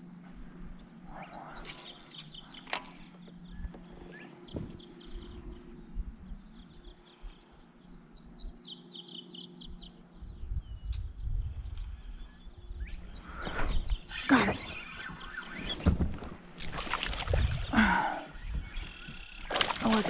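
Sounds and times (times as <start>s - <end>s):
insect trill: 0.0s - 20.0s
birds chirping: 0.6s - 20.0s.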